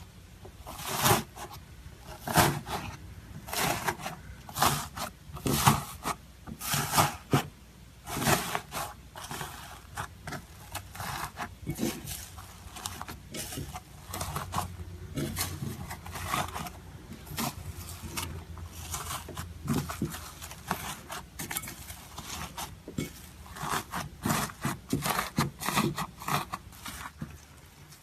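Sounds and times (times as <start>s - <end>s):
low steady hum: 0.0s - 28.0s
scraping and rubbing strokes: 0.6s - 28.0s.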